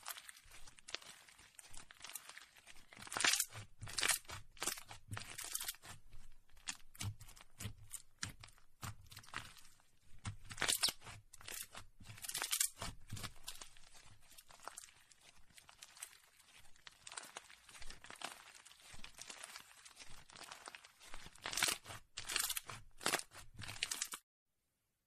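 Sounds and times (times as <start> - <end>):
slime squeezed crackling: 0.0 - 6.0, 6.6 - 24.2.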